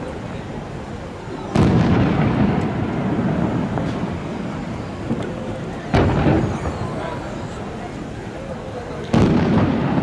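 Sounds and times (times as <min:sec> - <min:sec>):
firework crack: 0:01.4 - 0:10.0.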